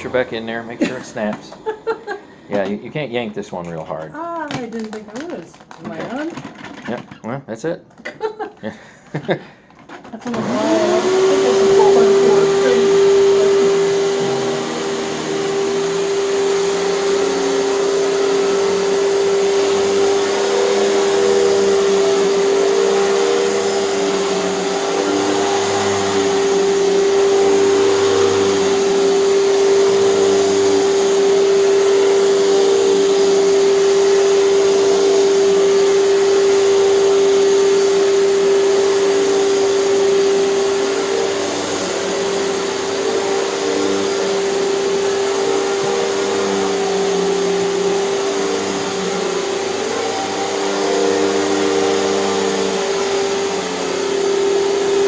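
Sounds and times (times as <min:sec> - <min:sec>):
vacuum cleaner motor whine: 0:00.0 - 0:07.2, 0:08.8 - 0:55.0.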